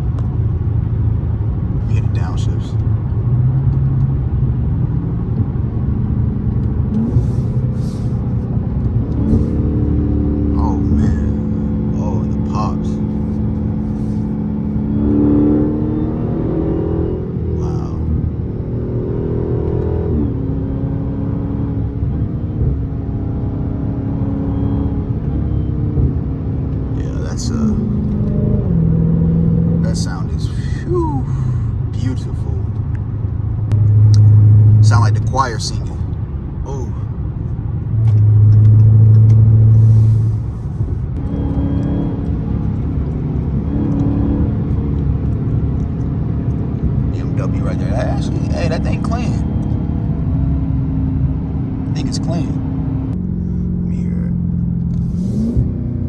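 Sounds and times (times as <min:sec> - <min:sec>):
car engine exhaust drone: 0:00.0 - 0:56.0.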